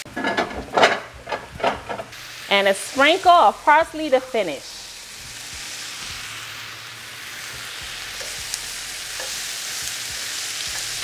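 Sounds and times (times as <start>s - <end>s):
vegetables sizzling in oil: 2.1s - 11.0s.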